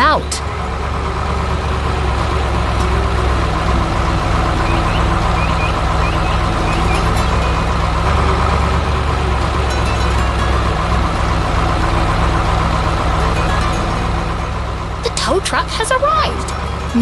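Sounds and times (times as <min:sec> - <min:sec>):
heavy truck engine humming: 0:00.0 - 0:17.0.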